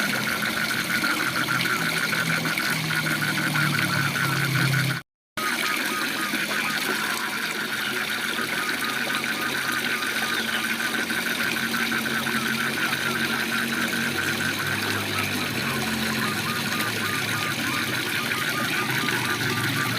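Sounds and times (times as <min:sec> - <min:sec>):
frog chorus pulsing: 0:00.0 - 0:19.9.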